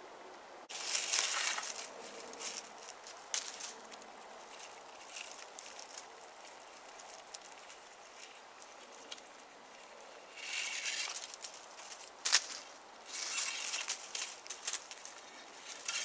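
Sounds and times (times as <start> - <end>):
dry branches clicking and rustling: 0.7 - 16.0.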